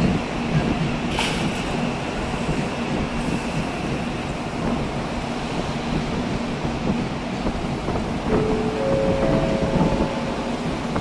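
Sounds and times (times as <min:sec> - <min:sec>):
train running: 0:00.0 - 0:11.0
wind on microphone: 0:00.0 - 0:11.0.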